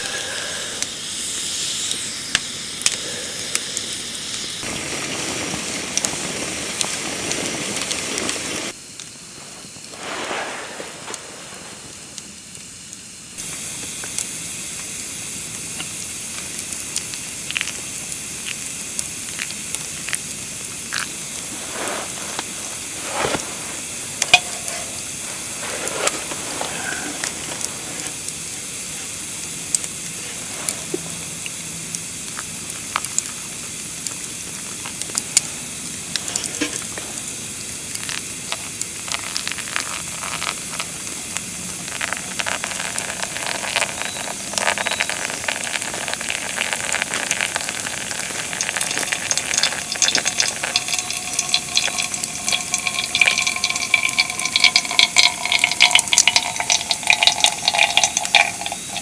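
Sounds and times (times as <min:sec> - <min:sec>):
food sizzling in a pan: 0:00.0 - 0:59.0
pops and crackles: 0:01.8 - 0:59.0.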